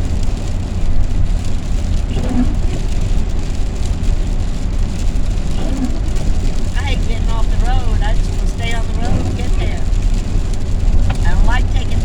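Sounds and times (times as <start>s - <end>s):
van engine and tyres rumbling: 0.0s - 12.0s.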